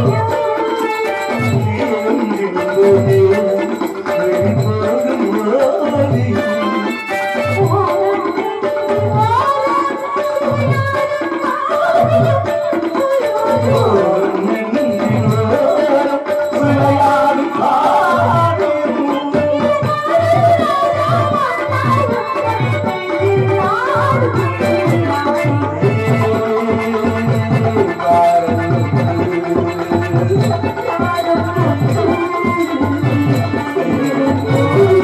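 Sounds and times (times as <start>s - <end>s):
tabla drum beat: 0.0s - 35.0s
woman singing into a microphone: 0.0s - 35.0s.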